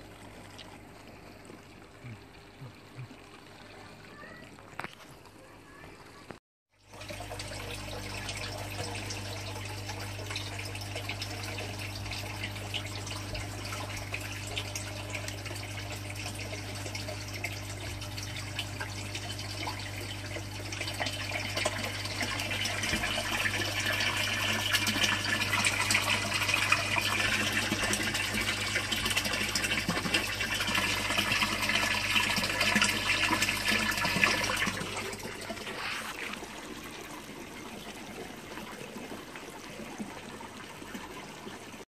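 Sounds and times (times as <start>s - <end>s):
water trickling into pond: 0.0s - 6.1s, 6.8s - 41.8s
water splashing into fish tank: 0.0s - 41.8s.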